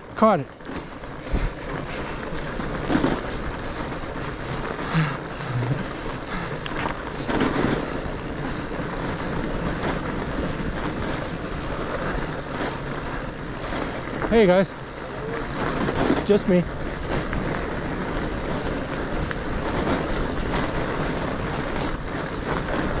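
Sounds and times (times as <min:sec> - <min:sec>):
bike jolts: 0:00.0 - 0:23.0
tyres rolling over snow: 0:00.0 - 0:23.0
wind on microphone: 0:01.1 - 0:23.0.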